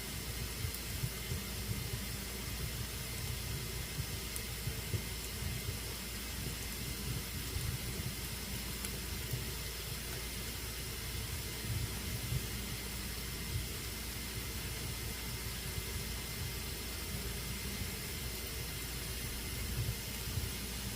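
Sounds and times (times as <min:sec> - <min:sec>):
fire burning in fireplace: 0:00.0 - 0:20.9
fire popping: 0:00.1 - 0:20.9.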